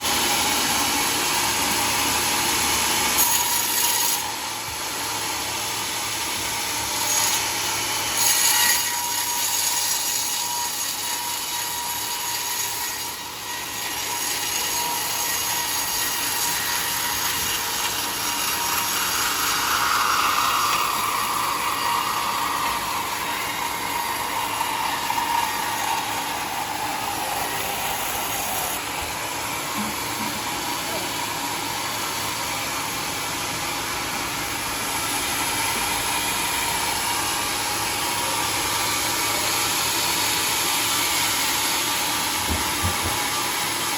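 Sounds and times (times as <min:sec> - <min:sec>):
sawmill blade cutting wood: 0:00.0 - 0:43.9.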